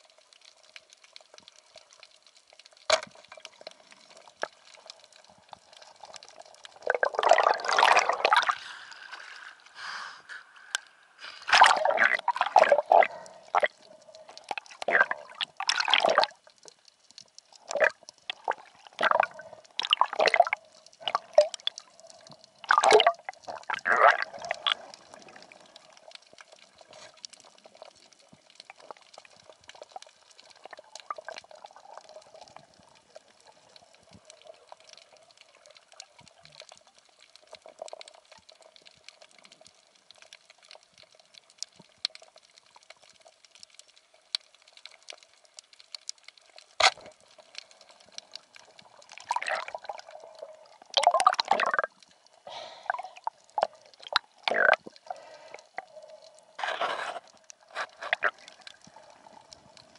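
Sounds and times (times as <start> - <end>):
faint steady hum: 0.0 - 42.5, 44.0 - 59.9
water splashing and bubbling: 0.0 - 59.9.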